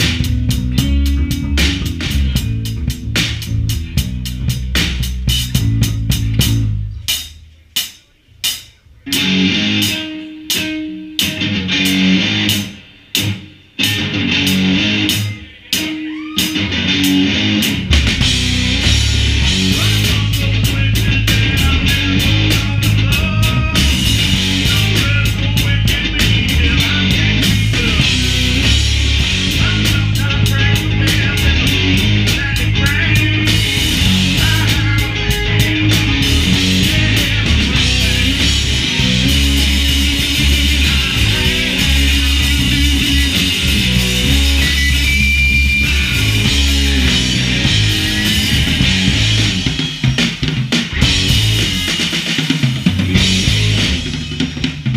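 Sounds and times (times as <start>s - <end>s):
rock band playing: 0.0s - 54.9s.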